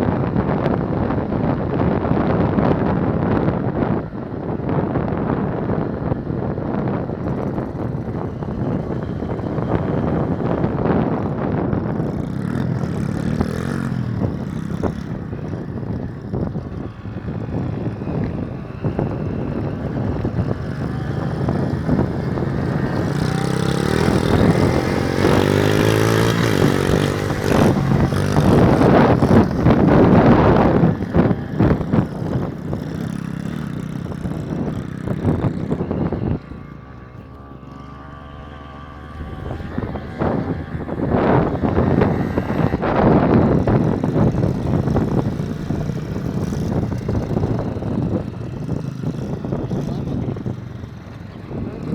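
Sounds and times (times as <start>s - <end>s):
small motorcycle engine revving: 0.0s - 51.9s.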